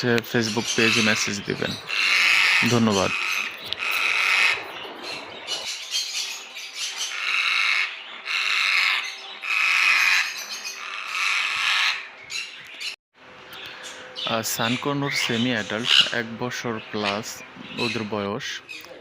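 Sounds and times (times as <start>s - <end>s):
parrots squawking: 0.3s - 12.9s, 13.6s - 19.0s.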